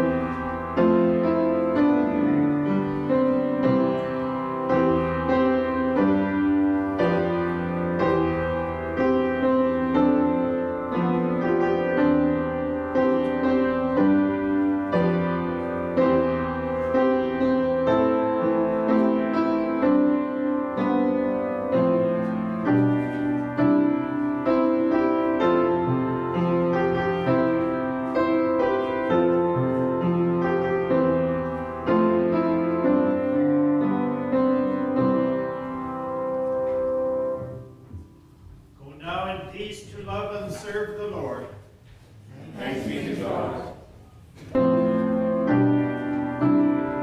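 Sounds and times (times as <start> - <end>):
slow piano chords: 0.0 - 47.0.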